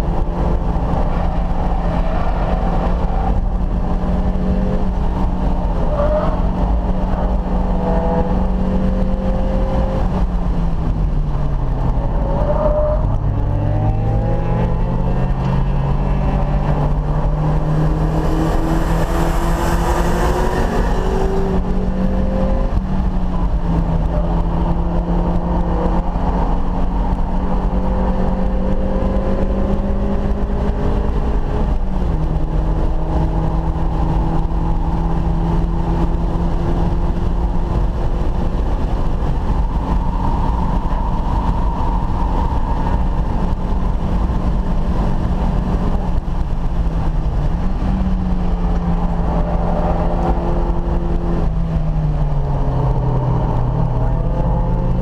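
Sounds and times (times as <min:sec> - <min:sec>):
car engine at high revs: 0:00.0 - 0:55.0
wind and road noise: 0:00.0 - 0:55.0.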